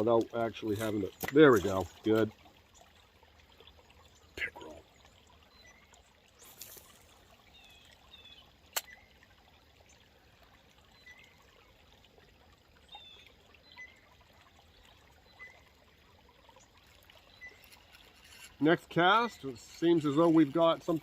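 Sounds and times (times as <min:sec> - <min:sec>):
stream trickling: 0:00.0 - 0:21.0.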